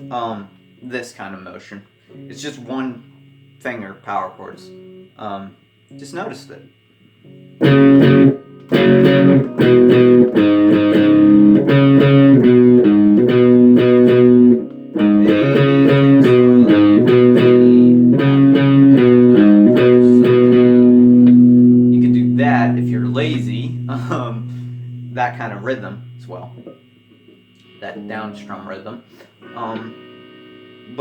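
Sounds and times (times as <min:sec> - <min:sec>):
guitar power chords riff: 0:00.0 - 0:01.2, 0:02.0 - 0:31.0.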